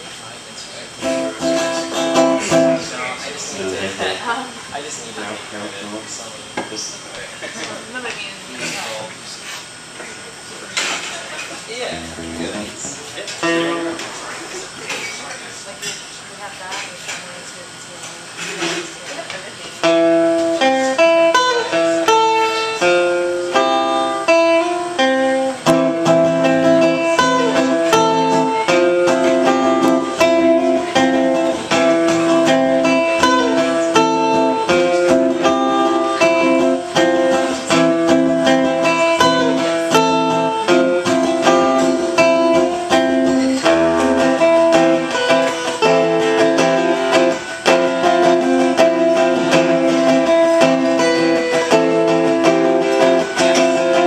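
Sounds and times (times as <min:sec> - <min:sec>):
acoustic guitars strumming chords: 0:00.0 - 0:04.5, 0:10.8 - 0:16.9, 0:19.6 - 0:54.0.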